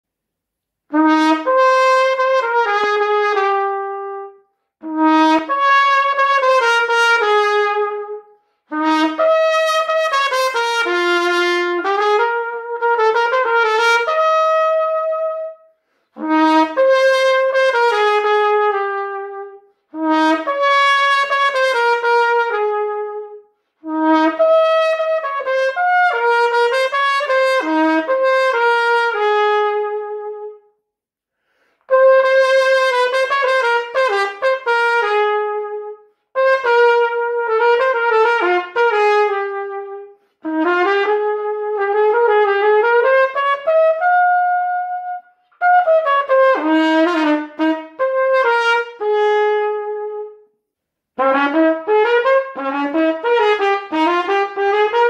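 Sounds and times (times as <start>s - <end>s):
trumpet playing slow melody: 0.8s - 30.7s, 31.8s - 50.6s, 51.2s - 55.0s.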